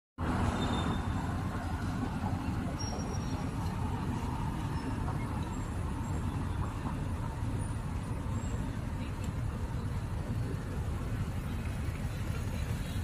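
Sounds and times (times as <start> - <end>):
city traffic rumble: 0.2 - 13.0.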